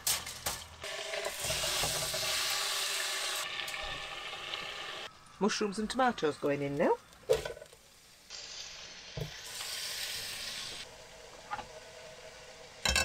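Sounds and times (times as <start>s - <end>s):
mushrooms sizzling in a pan: 0.8s - 13.0s.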